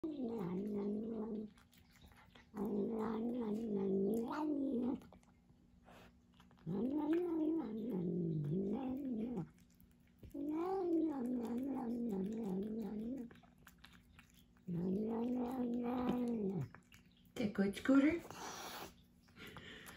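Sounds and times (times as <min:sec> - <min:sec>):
cat chewing and licking: 0:00.0 - 0:19.9.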